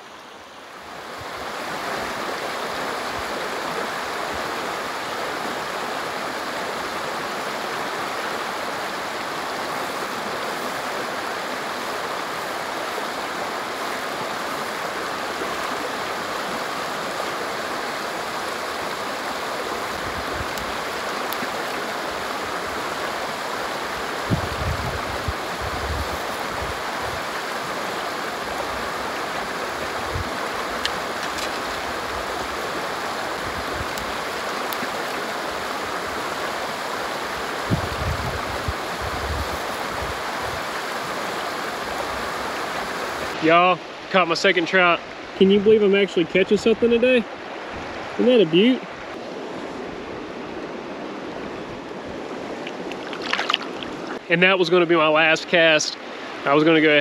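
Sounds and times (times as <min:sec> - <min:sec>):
river rushing over rapids: 0:00.0 - 0:57.0.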